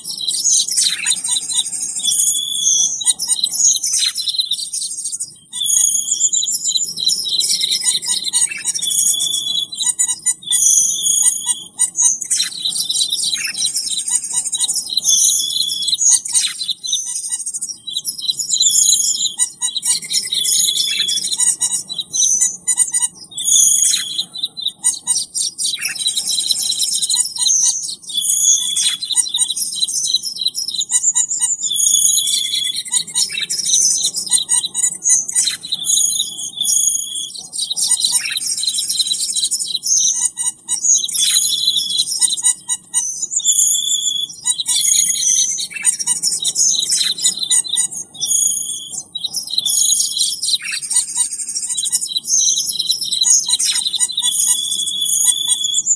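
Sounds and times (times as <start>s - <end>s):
recorded birdsong chirps and whistles: 0.0s - 55.9s.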